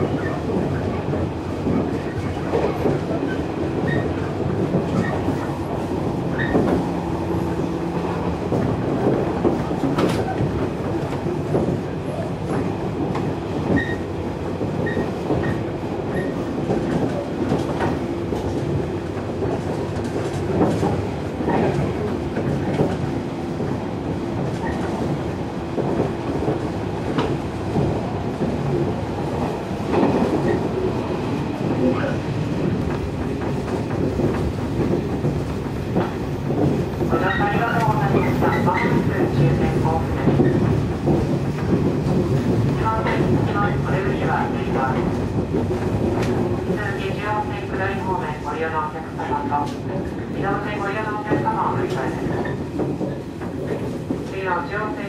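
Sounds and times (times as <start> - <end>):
rail joint clicks: 0.0 - 55.0
train wheels on rails: 0.0 - 55.0.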